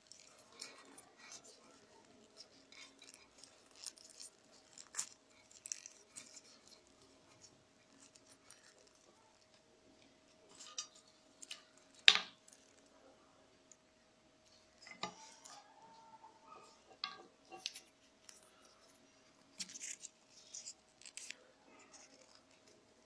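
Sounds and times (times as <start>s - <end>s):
paper tubes crackling and rustling: 0.0s - 13.0s, 14.6s - 23.0s.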